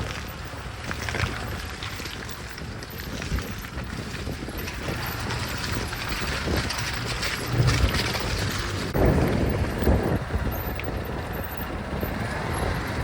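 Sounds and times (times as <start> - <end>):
vehicle body clatter and knocks: 0.0 - 11.7
car engine under load: 0.0 - 13.0.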